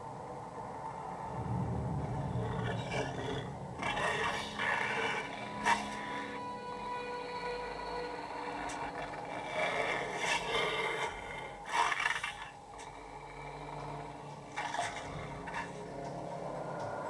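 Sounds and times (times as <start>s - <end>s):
sustained music drone: 0.0s - 17.0s.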